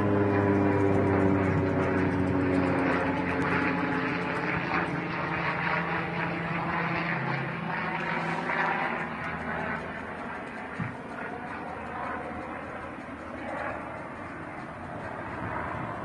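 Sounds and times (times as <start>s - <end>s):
airplane engines droning: 0.0s - 16.0s.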